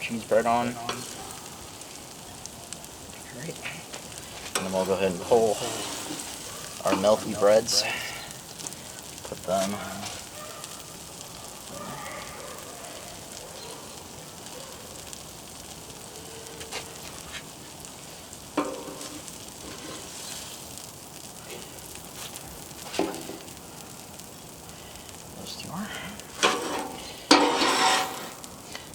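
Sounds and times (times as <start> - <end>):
food sizzling on a griddle: 0.0 - 28.9.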